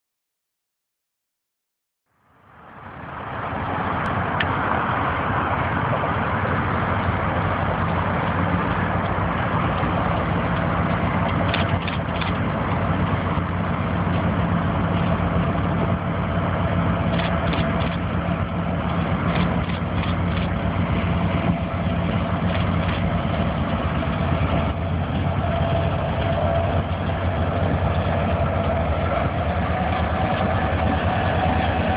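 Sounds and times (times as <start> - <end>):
locomotive engine drone: 2.1 - 31.9
constant low hum: 2.3 - 31.9.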